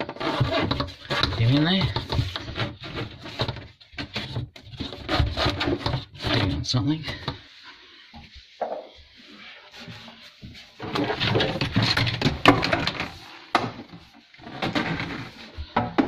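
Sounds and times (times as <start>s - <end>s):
plastic hoses scraping: 0.0s - 16.0s.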